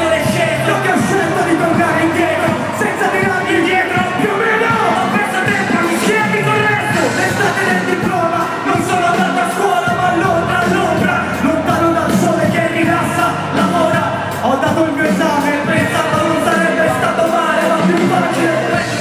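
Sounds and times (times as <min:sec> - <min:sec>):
rapping over a backing track: 0:00.0 - 0:19.0.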